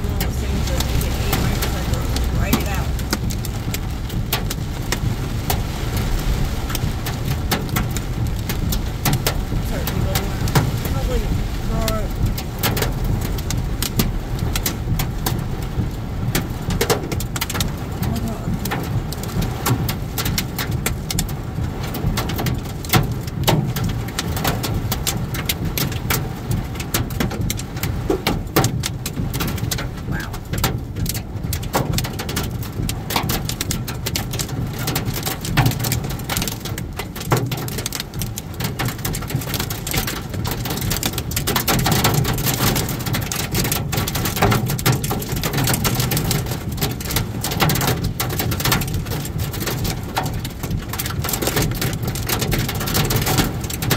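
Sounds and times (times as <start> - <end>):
heavy rain on car windshield: 0.0 - 53.9
tyres humming on wet road: 0.0 - 53.9.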